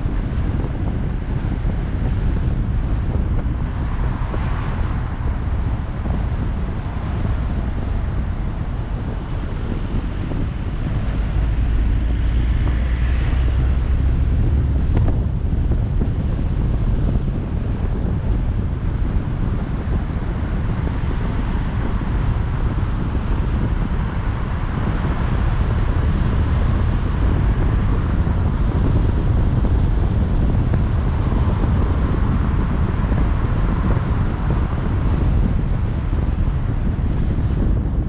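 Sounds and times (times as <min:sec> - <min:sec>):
car road noise: 0:00.0 - 0:38.0
wind rumble on microphone: 0:00.0 - 0:38.0.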